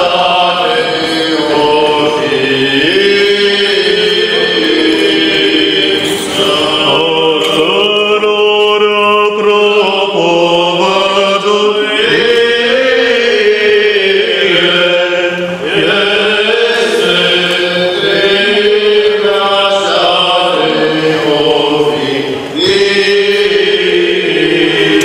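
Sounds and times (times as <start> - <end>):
voices chanting slow melody: 0.0 - 25.0.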